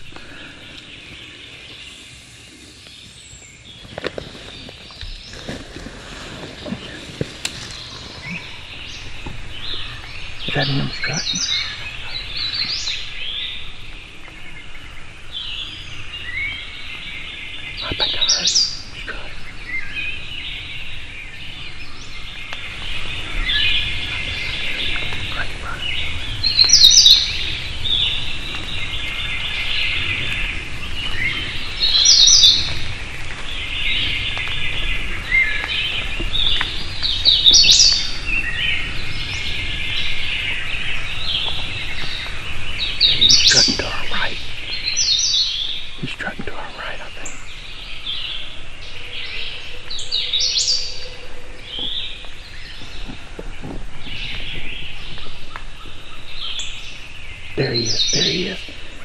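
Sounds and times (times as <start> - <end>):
chorus of bird chirps: 0.0 - 59.0
loud bird song phrase: 6.4 - 59.0.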